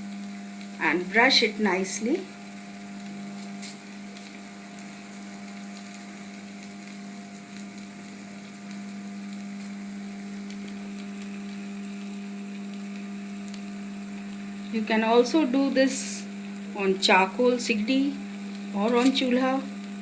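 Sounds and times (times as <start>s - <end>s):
chicken sizzling: 0.0s - 20.0s
low electrical hum: 0.0s - 20.0s.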